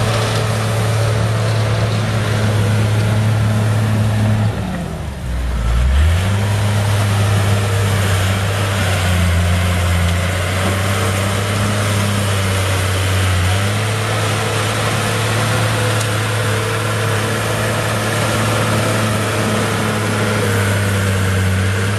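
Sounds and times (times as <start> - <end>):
blade pushing dirt and gravel: 0.0 - 4.6, 6.1 - 21.9
diesel engine running: 0.0 - 21.9.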